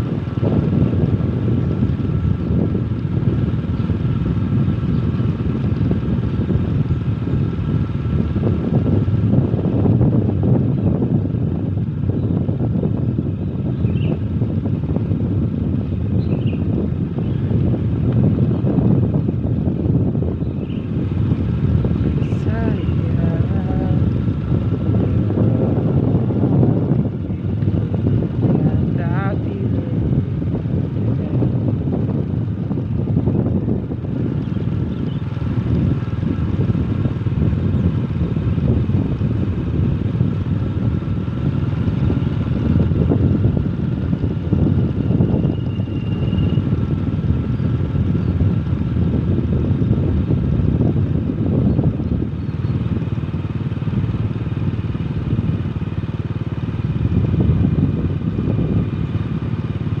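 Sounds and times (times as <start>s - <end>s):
road traffic: 0.0s - 60.0s.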